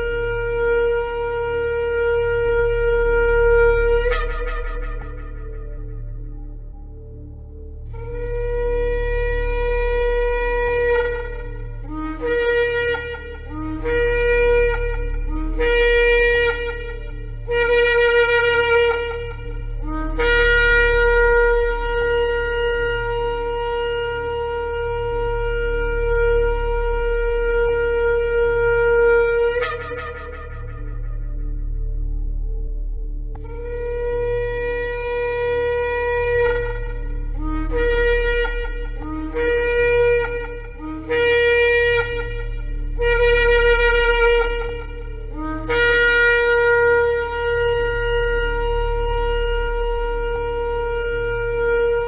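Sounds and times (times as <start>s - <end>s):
shofar blasts: 0.0s - 52.0s.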